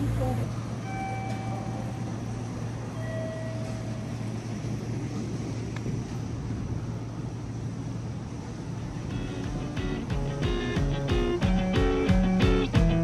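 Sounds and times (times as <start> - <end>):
station ambience: 0.0 - 13.0
train humming: 0.0 - 13.0.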